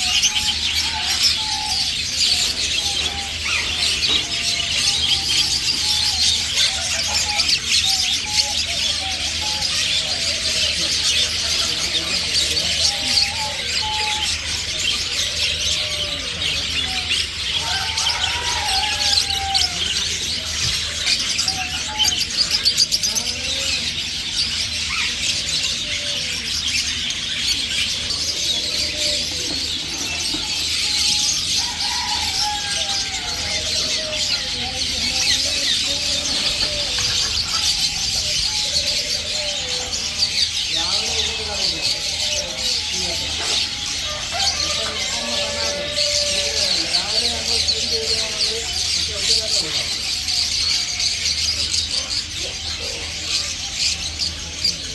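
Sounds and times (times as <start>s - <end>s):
caged birds chirping: 0.0s - 54.9s.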